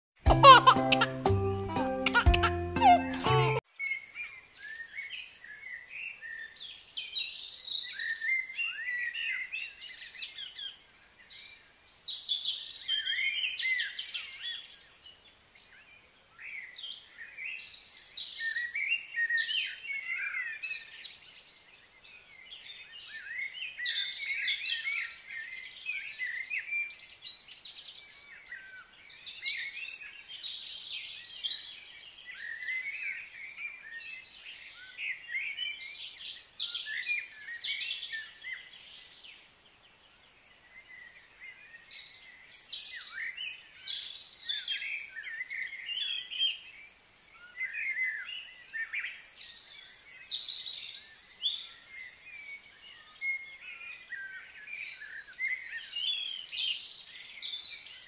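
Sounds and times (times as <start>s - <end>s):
birds singing and chirping: 2.0s - 58.0s.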